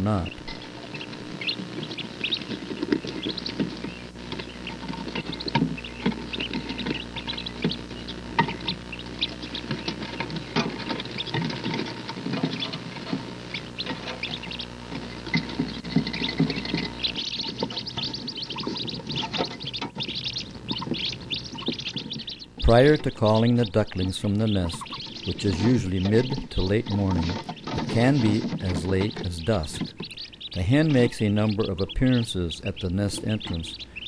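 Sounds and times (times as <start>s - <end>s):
ducklings peeping rapidly: 0.0s - 34.0s
small feet scratching on wire mesh: 0.4s - 31.4s.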